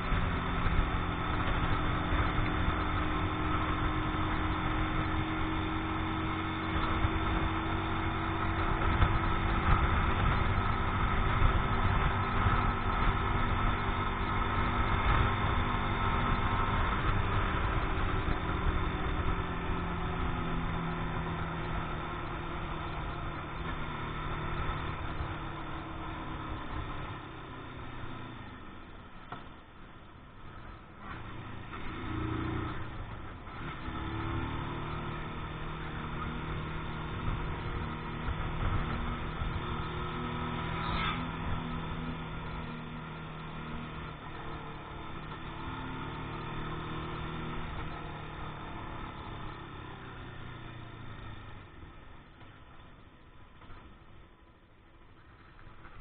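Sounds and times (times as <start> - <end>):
motorcycle engine running: 0.0 - 29.4, 30.5 - 56.0.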